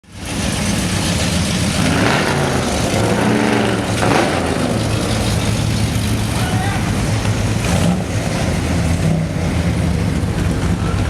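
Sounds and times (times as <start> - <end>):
car engines driving by: 0.0 - 11.0.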